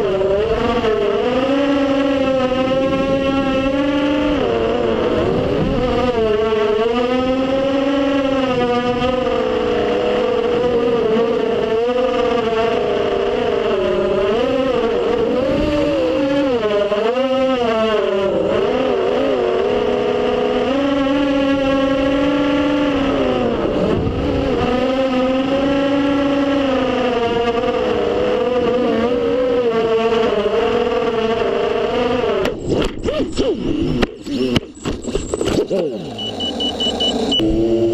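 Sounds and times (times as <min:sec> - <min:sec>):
drone motors whining: 0:00.0 - 0:37.9.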